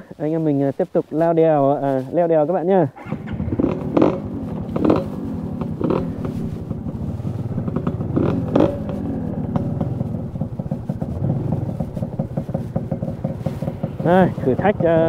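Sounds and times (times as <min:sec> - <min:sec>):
motorcycle engine revving: 0:02.9 - 0:15.0.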